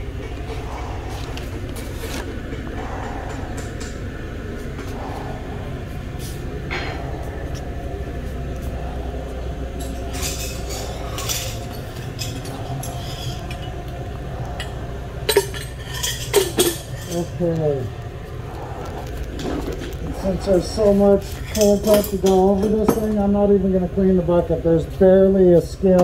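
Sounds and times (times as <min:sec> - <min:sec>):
machine droning: 0:00.0 - 0:26.0.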